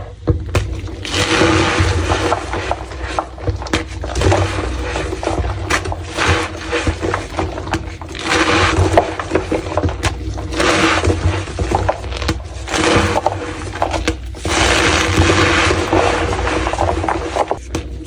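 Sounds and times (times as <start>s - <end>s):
steady low hum: 0.0s - 18.0s
chalk block crunching: 0.5s - 18.0s.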